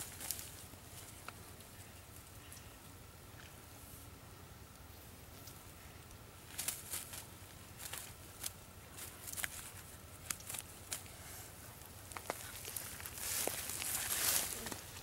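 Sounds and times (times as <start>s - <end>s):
dry leaves and twigs crackling underfoot: 0.0s - 2.7s, 4.7s - 15.0s.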